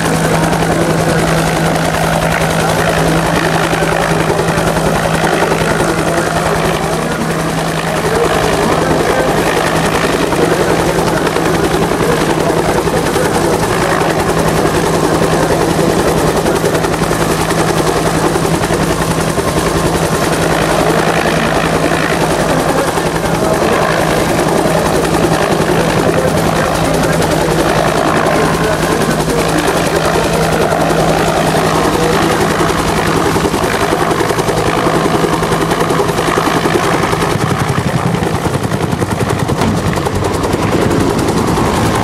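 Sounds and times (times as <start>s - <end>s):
helicopter rotor chopping: 0.0s - 42.0s.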